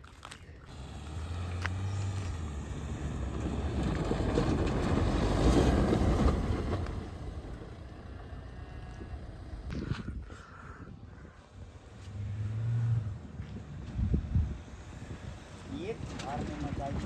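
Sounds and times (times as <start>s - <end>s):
vehicle driving on loose dirt: 0.0s - 10.3s, 11.0s - 17.0s.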